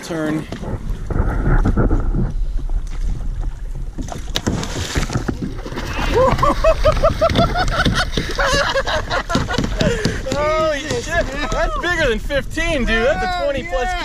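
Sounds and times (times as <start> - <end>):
water splashing and churning: 0.0 - 14.0
wind rumbling on microphone: 0.0 - 14.0.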